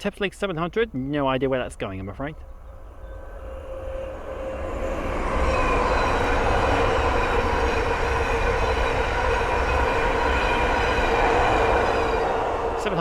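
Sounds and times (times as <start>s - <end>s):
steady multi-tone train whine: 1.2s - 13.0s
electric train rushing past: 2.3s - 13.0s.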